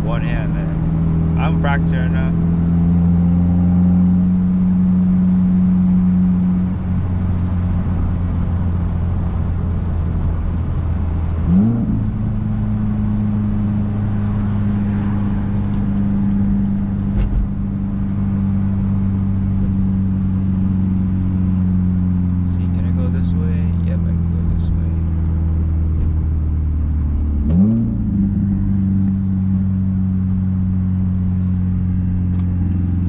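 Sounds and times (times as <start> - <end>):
turbocharged car engine from inside cabin: 0.0 - 33.0.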